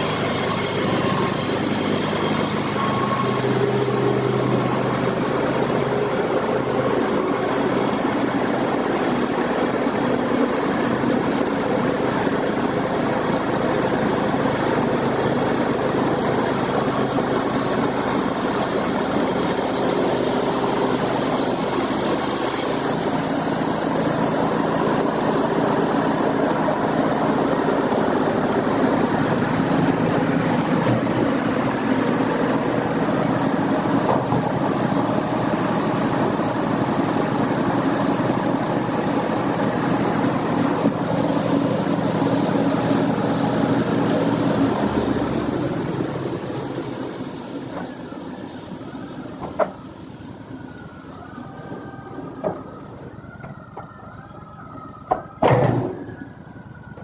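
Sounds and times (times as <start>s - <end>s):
engine running: 0.0s - 57.0s
sawmill machinery running: 0.0s - 57.0s.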